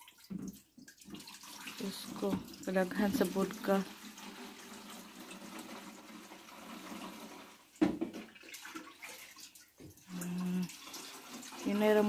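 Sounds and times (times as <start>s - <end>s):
liquid pouring through funnel: 0.0s - 12.0s.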